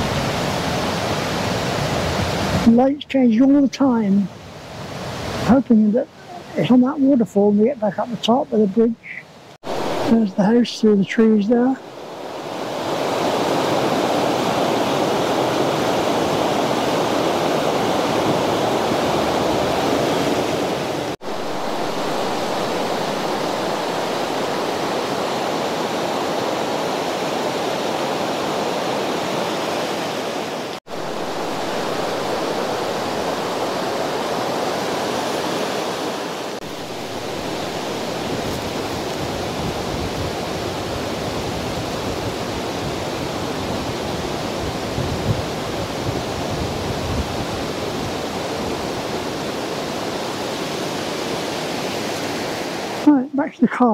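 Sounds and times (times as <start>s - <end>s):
waterfall roaring: 0.0s - 53.9s.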